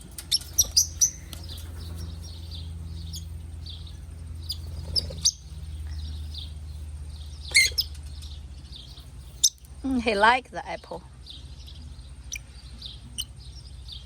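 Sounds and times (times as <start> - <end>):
parrots chirping: 0.0 - 9.8, 11.3 - 14.0
low hum: 0.0 - 14.0.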